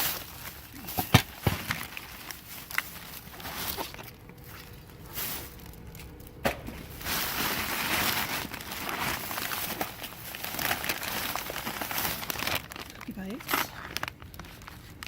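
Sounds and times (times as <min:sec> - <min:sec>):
rustling of bags and packaging: 0:00.0 - 0:15.0.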